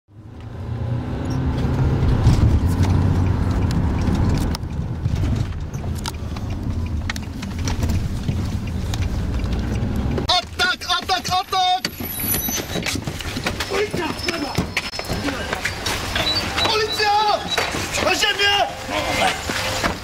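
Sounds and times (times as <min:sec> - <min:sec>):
car engine and road rumble: 0:00.1 - 0:20.0.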